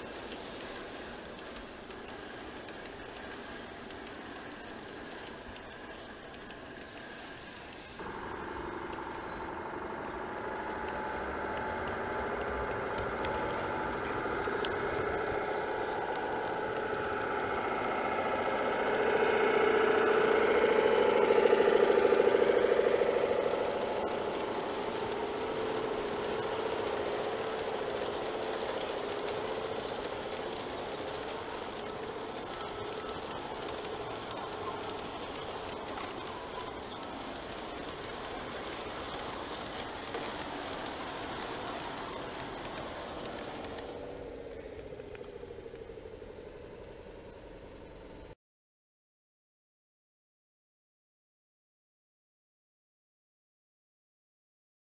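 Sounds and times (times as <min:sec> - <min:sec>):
model train motor whine: 0:00.0 - 0:48.3
wheels rattling over rails: 0:00.0 - 0:48.4.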